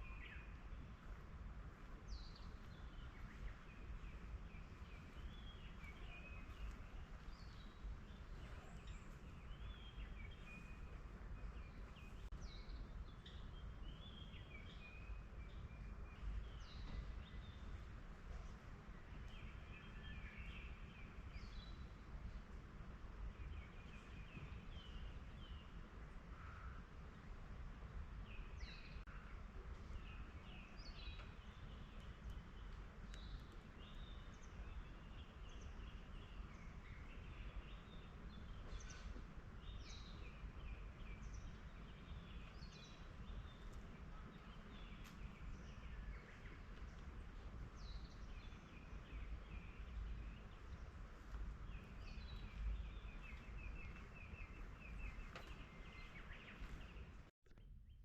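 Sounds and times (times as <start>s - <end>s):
small birds chirping: 1.8s - 22.3s, 28.1s - 58.0s.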